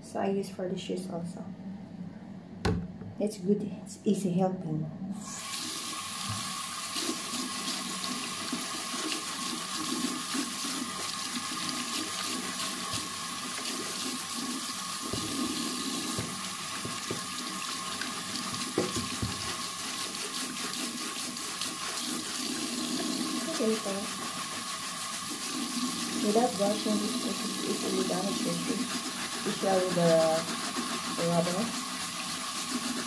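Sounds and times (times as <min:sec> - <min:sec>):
tap water running: 0:05.2 - 0:33.0
brush scrubbing shoe: 0:06.2 - 0:33.0.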